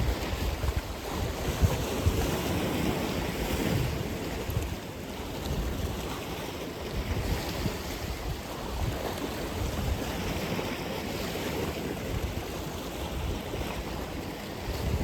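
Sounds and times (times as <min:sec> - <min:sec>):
waves breaking: 0:00.0 - 0:15.0
wind on microphone: 0:00.0 - 0:15.0.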